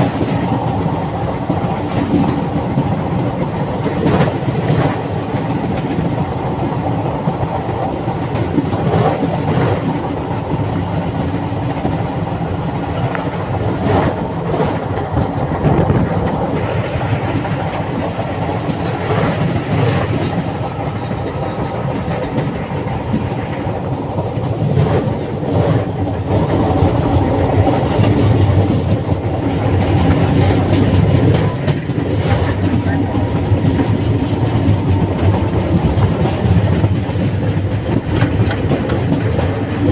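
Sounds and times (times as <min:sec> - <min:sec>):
train rumbling on track: 0:00.0 - 0:39.9
wheels clicking over rail joints: 0:00.0 - 0:39.9.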